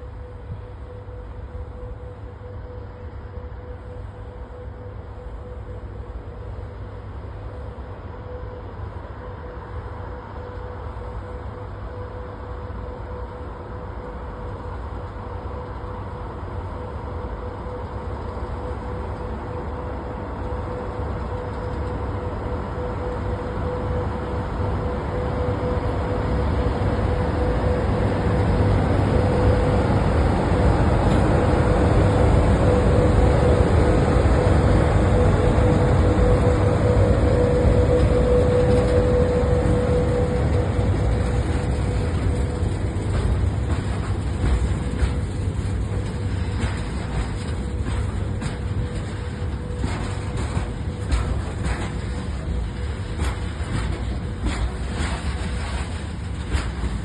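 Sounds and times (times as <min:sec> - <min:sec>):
steady whine: 0:00.0 - 0:57.0
train rumble: 0:00.0 - 0:57.0.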